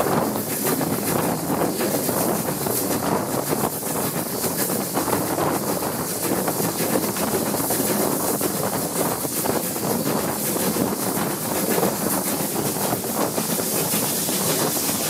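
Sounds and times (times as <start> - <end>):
steam train running: 0.0 - 15.0
wind buffeting microphone: 0.0 - 15.0.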